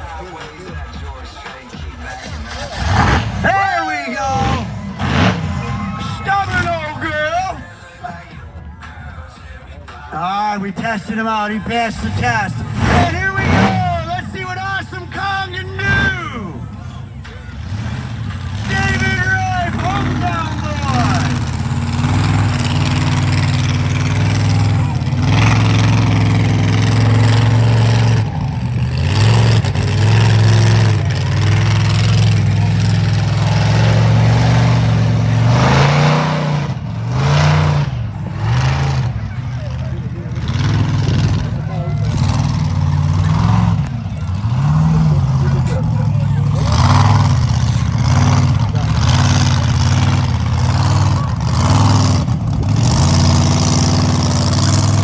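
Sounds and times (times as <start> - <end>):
monster truck engine revving: 0.0 - 55.0.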